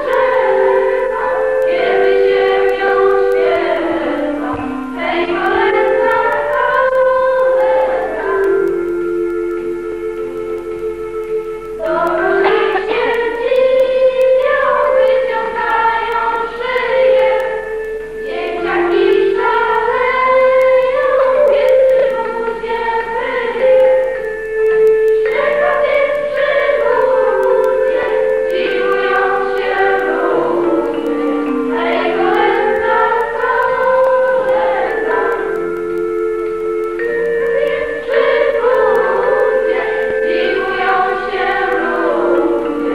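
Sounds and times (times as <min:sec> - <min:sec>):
group of voices singing: 0:00.0 - 0:42.9
instrumental accompaniment: 0:00.0 - 0:42.9.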